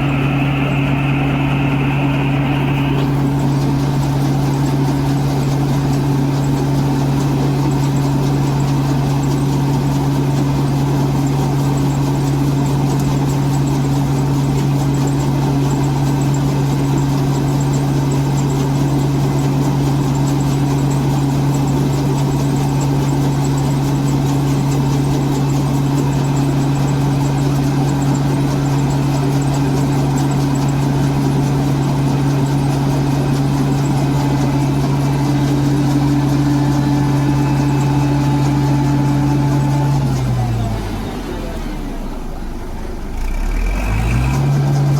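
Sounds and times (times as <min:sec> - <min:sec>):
combine harvester engine running: 0:00.0 - 0:44.9.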